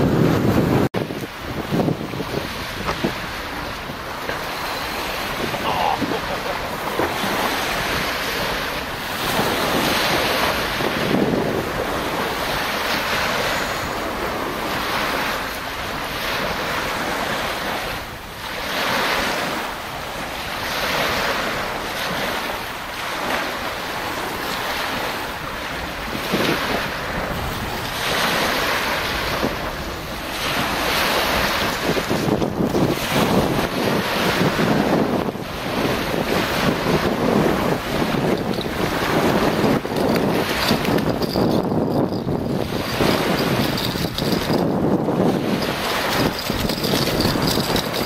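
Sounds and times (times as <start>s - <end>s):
ocean surf breaking: 0.0s - 48.0s
wind buffeting microphone: 0.0s - 48.0s.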